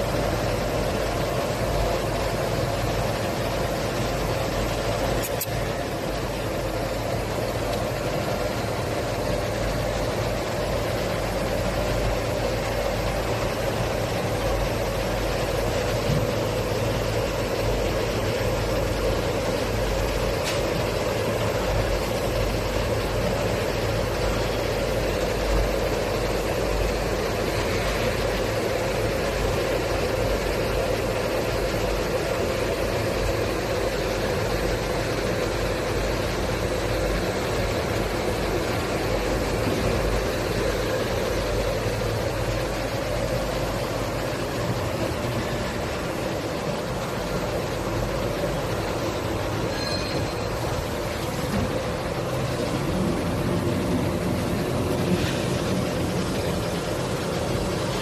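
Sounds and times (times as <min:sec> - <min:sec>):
factory machinery hum: 0:00.0 - 0:58.0.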